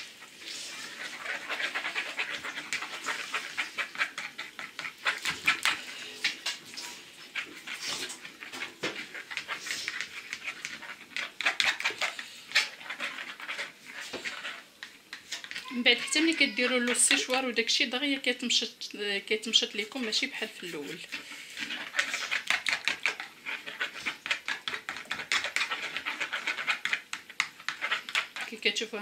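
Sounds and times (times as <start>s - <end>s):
spoon beating mixture in bowl: 0.0s - 18.6s, 19.3s - 29.0s.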